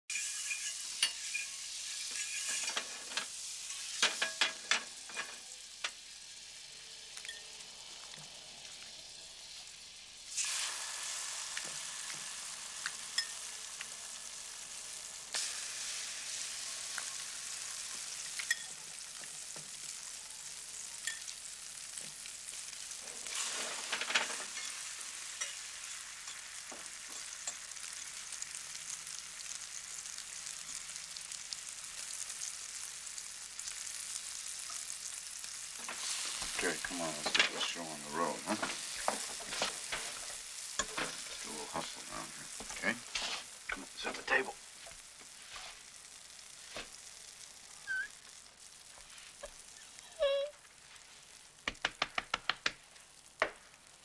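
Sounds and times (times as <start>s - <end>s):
food sizzling in a pan: 0.1s - 54.0s.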